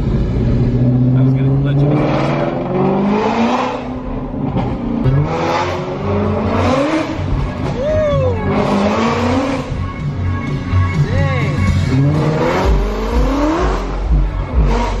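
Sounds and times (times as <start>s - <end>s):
car engine accelerating hard: 0.0s - 10.1s, 11.6s - 15.0s.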